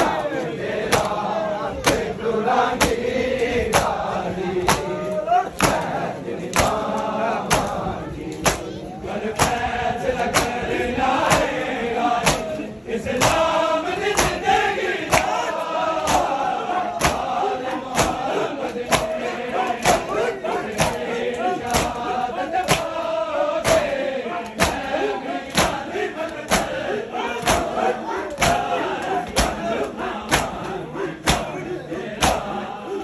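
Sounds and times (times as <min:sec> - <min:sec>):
voices chanting a lament: 0:00.0 - 0:33.0
palms slapping bare chests: 0:00.9 - 0:01.2, 0:01.8 - 0:02.2, 0:02.8 - 0:08.7, 0:09.4 - 0:09.7, 0:10.3 - 0:10.6, 0:11.2 - 0:12.6, 0:13.2 - 0:23.0, 0:23.6 - 0:32.6.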